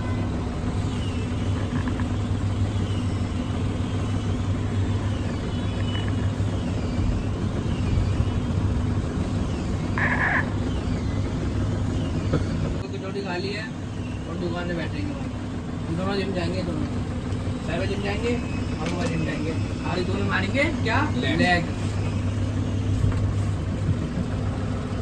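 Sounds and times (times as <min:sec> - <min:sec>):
traffic engine hum: 0:00.0 - 0:25.0.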